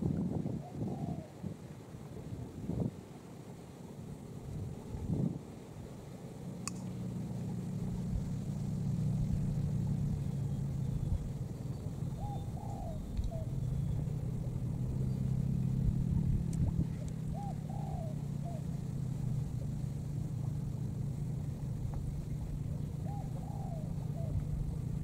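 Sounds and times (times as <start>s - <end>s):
motor engine humming: 4.2s - 25.0s.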